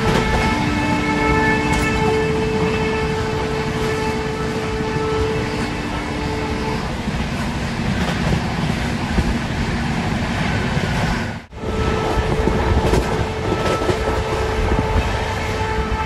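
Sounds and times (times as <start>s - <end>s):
train coach rattle: 0.0s - 16.0s
train wheels rumbling on rails: 0.0s - 16.0s.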